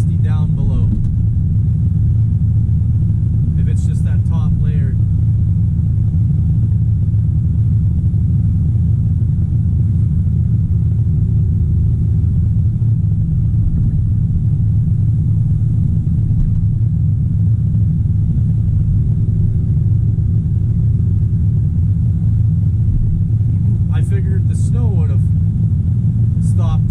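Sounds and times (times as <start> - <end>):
diesel engine rumbling: 0.0 - 26.9.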